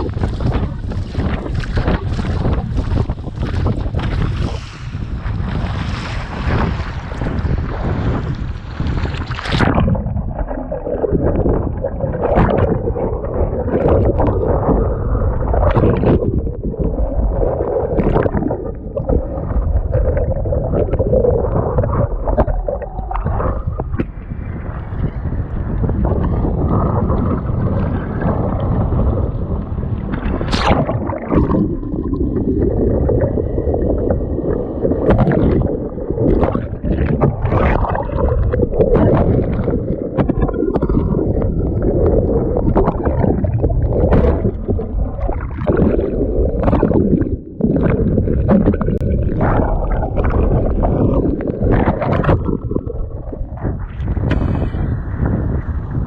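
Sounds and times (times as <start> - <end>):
rushing and splashing water: 0.0 - 56.0
wind buffeting microphone: 0.0 - 56.0.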